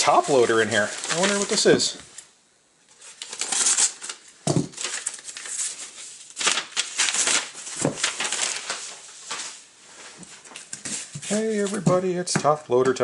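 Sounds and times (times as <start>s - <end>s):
paper envelope rustling: 0.0s - 2.0s, 2.9s - 12.1s.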